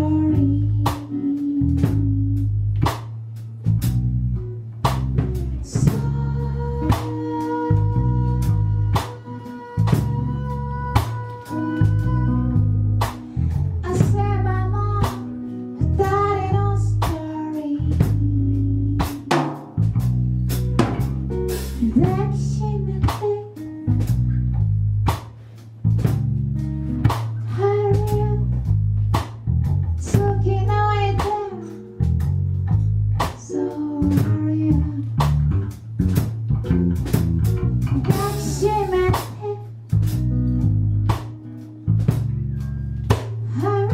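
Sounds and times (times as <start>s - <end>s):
bass guitar: 0.0s - 43.9s
drum kit playing a steady beat: 0.0s - 43.9s
electric guitar: 3.6s - 43.9s.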